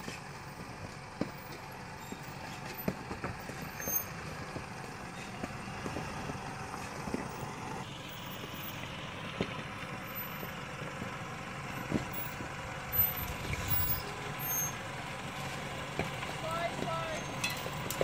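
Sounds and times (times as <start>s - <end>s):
engine running at low revs: 0.0s - 18.0s.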